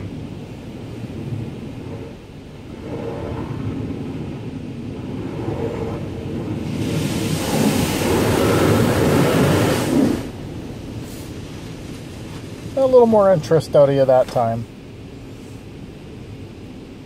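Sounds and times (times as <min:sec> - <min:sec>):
car wash water spraying: 0:00.0 - 0:16.2.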